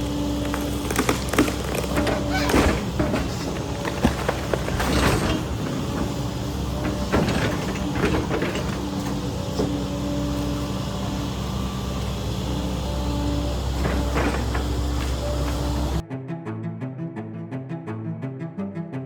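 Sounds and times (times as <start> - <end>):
crashing crackling noises: 0.0 - 16.0
excavator diesel engine running: 0.0 - 16.0.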